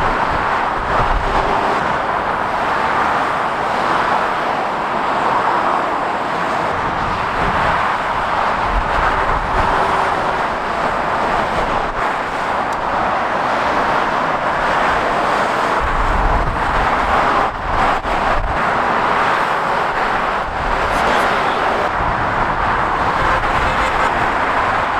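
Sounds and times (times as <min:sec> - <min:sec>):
heavy vehicles rumbling by: 0:00.0 - 0:24.9
motorway traffic noise: 0:00.0 - 0:24.9.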